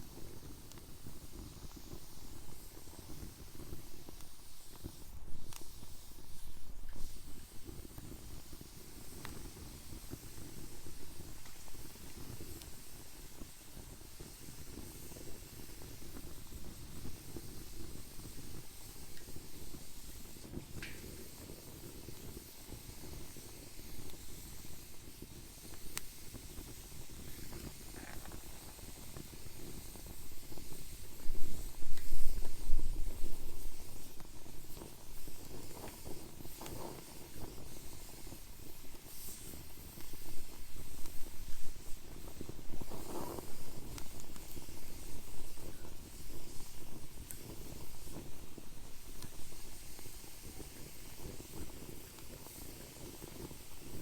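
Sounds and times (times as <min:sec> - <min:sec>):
fire crackles and pops: 0:00.0 - 0:54.0
wood fire rumbling hiss: 0:00.0 - 0:54.0.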